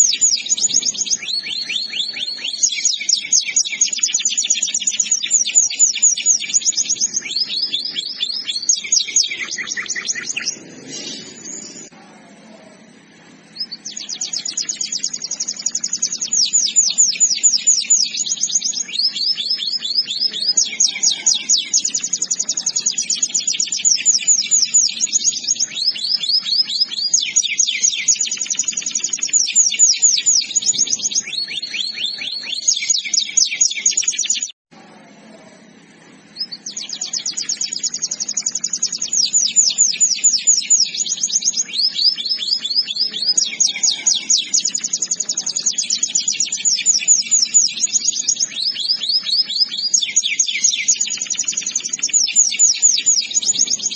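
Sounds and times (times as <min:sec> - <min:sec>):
canary singing trills: 0:00.0 - 0:34.6, 0:35.6 - 0:53.9.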